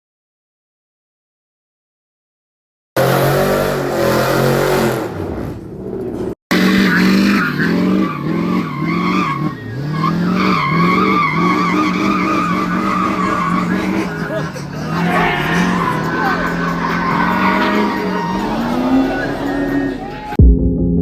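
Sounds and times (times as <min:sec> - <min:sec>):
tire squeal: 0:03.0 - 0:20.4
truck engine revving: 0:03.0 - 0:20.4.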